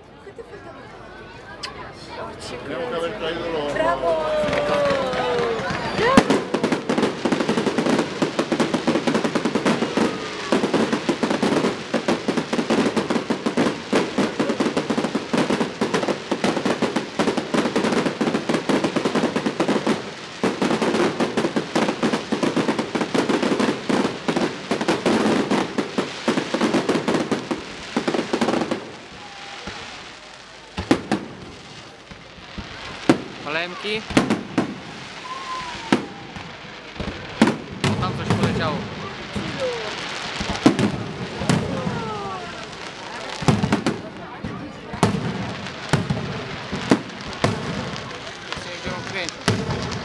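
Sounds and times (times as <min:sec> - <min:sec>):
fireworks crackling and popping: 0:03.4 - 0:50.0
sharp firework bangs: 0:04.5 - 0:50.0.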